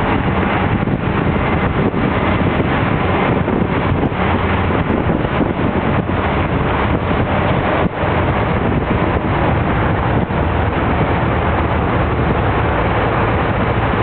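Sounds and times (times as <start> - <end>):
vehicle engine and road noise: 0.0 - 14.0
wind on microphone: 0.0 - 14.0.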